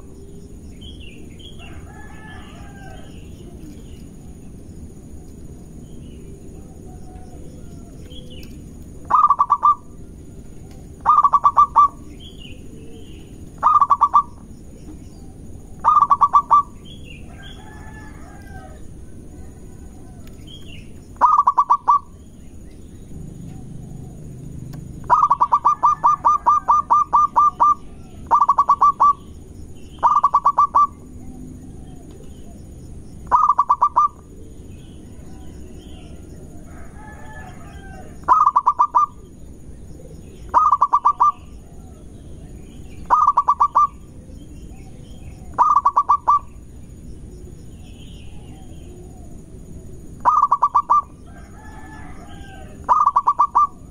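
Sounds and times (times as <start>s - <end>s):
dove cooing: 0.0s - 22.3s, 23.1s - 46.7s, 47.8s - 53.9s
faint bird chirps: 5.2s - 18.6s, 19.3s - 47.0s, 50.2s - 53.9s.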